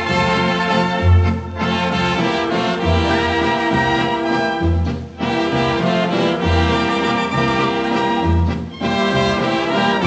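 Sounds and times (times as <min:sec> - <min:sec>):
dance orchestra playing a waltz: 0:00.0 - 0:10.0.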